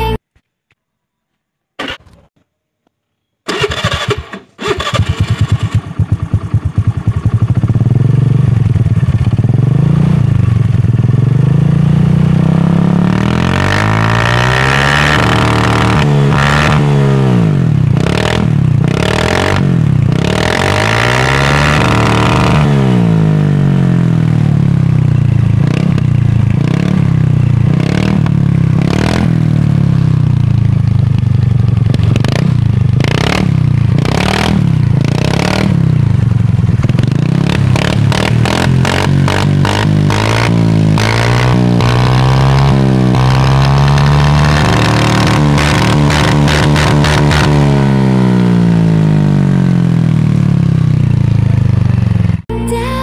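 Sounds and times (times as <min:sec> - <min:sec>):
exhaust popping backfires: 0:03.5 - 0:52.5
scooter engine revving: 0:03.5 - 0:52.5.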